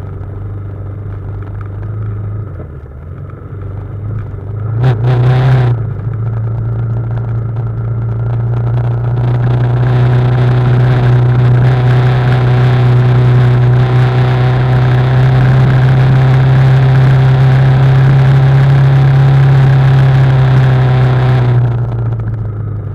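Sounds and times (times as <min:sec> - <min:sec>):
motorcycle engine humming: 0:00.0 - 0:22.9.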